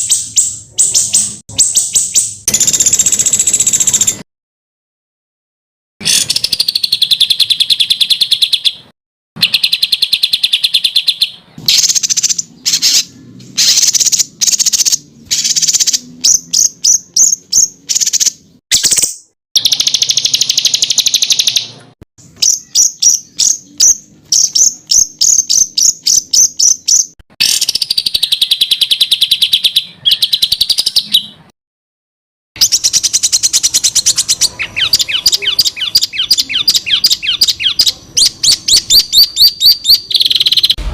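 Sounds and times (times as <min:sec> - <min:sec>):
songbird trilling and chirping: 0:00.0 - 0:04.2, 0:06.0 - 0:31.5, 0:32.6 - 0:40.8.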